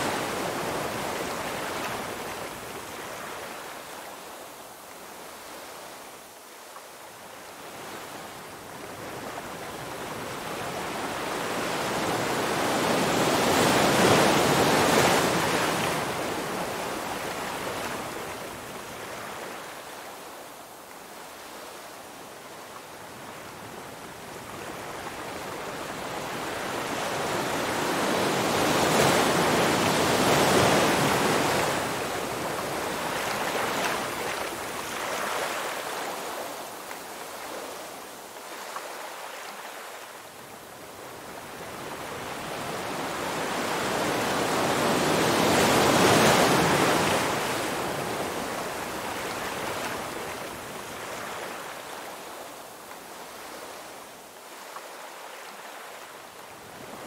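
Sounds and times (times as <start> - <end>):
ocean waves washing onto beach: 0.0 - 57.0.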